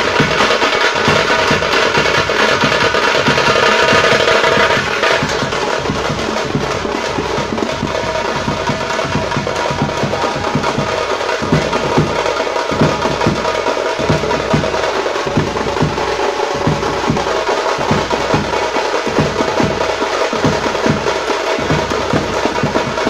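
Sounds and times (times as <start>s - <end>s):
fast drum-driven music: 0.0s - 23.0s.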